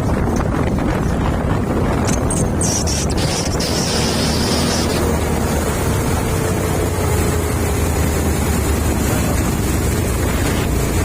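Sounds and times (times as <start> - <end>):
truck engine running: 0.0 - 11.0
wind rushing over microphone: 0.0 - 11.0.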